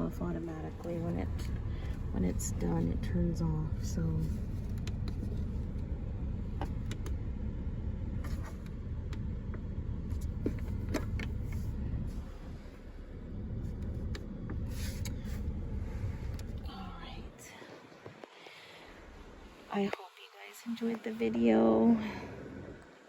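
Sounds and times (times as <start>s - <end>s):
low rumble: 0.0s - 19.8s.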